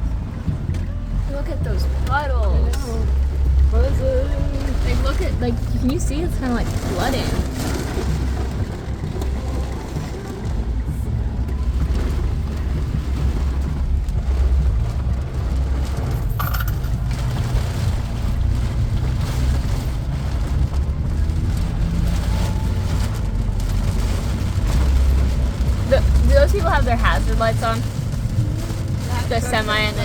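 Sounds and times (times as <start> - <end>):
heavy rain on a car: 0.0 - 30.0
tyres rumbling on wet road: 0.0 - 30.0.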